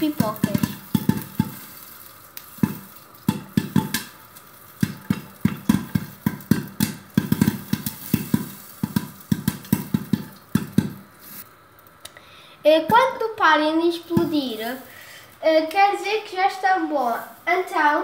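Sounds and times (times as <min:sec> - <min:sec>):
popcorn popping in pan: 0:00.0 - 0:18.0.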